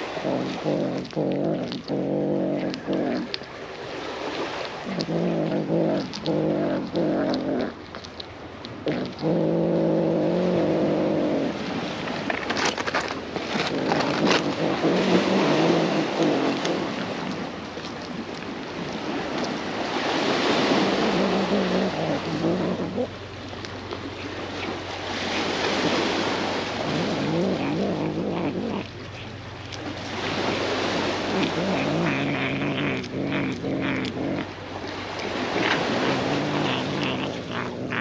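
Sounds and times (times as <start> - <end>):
cat growling low: 0.0 - 12.4, 13.4 - 38.0.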